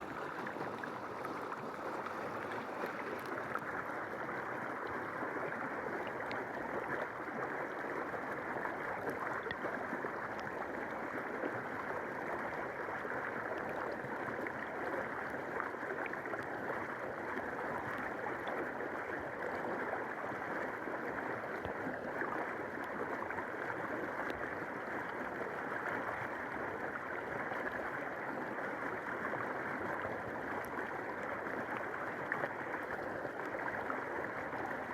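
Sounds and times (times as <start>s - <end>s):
underwater river rush: 0.0s - 34.9s.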